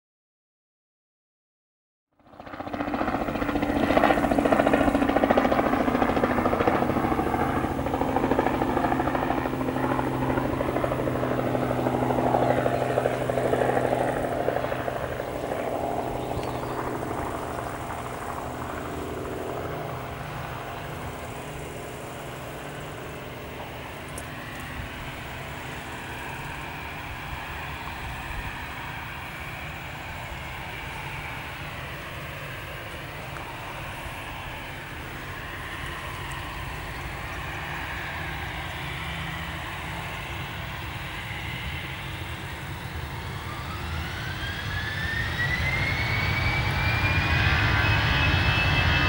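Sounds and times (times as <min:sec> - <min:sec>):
jet engines humming and whining: 0:02.2 - 0:49.0.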